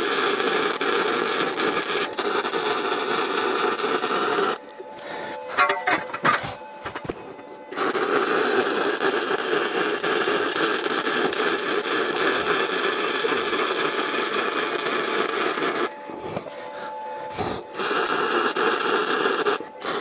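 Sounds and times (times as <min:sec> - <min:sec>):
arc welder hissing: 0:00.0 - 0:07.0, 0:07.7 - 0:20.0.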